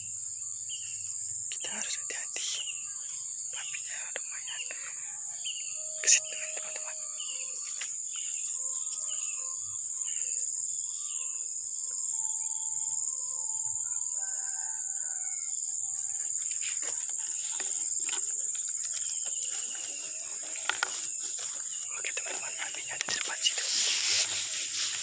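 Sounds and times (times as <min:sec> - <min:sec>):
high-pitched insect drone: 0:00.0 - 0:25.0
birds chirping and whistling: 0:00.4 - 0:14.4, 0:15.8 - 0:25.0.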